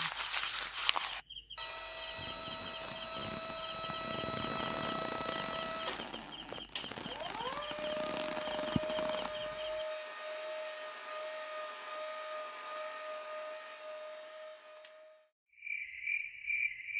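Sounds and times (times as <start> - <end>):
small electric motor whine: 1.6 - 15.3.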